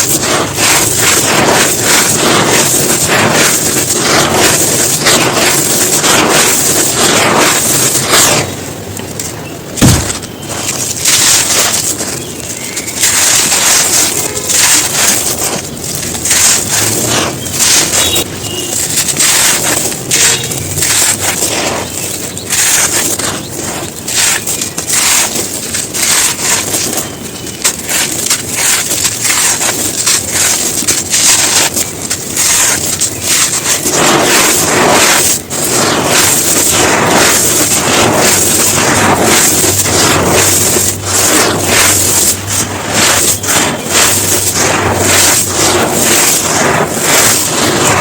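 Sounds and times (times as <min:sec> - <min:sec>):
dried chunks crumbled by hand: 0:00.0 - 0:48.0.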